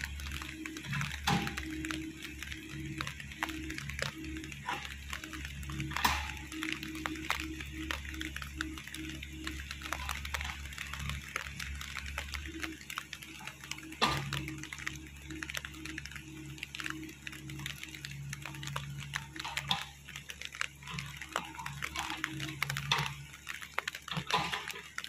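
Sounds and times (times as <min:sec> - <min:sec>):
cracks and clatters of digging: 0:00.0 - 0:25.0.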